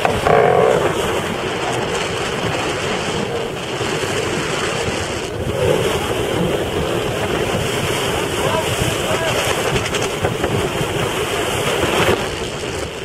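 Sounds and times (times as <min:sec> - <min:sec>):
rough choppy sea: 0:00.0 - 0:13.0
strong wind on microphone: 0:00.0 - 0:13.0
yacht bow waves: 0:00.0 - 0:13.0.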